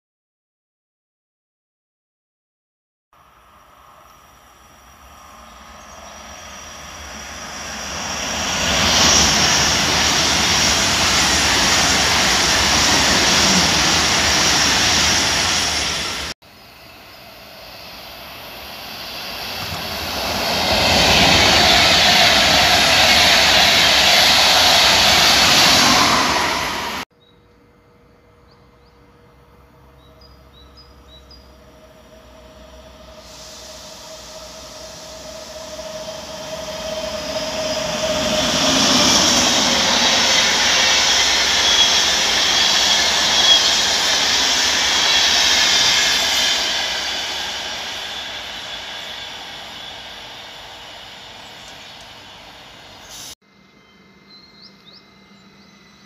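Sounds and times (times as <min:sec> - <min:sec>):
trains passing at speed: 0:03.2 - 0:27.1, 0:29.3 - 0:53.4.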